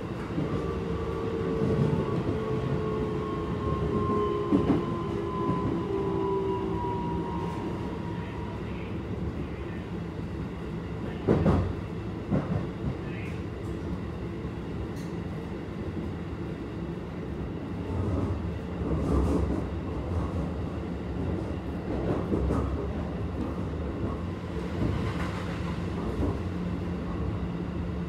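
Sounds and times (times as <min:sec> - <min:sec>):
oncoming train passing: 0:00.0 - 0:28.0
train wheels rumbling on rail: 0:00.0 - 0:28.0.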